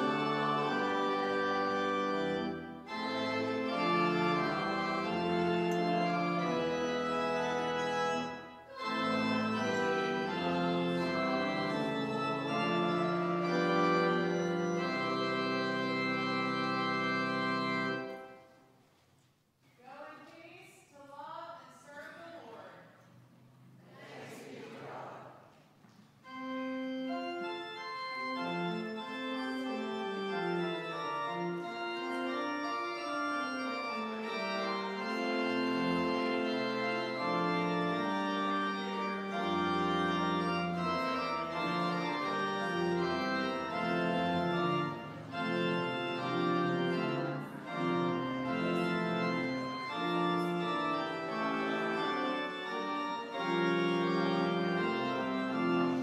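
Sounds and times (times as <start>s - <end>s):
low organ pedal bass: 0.0s - 18.3s, 26.2s - 56.0s
church organ chords: 0.0s - 18.6s, 26.2s - 56.0s.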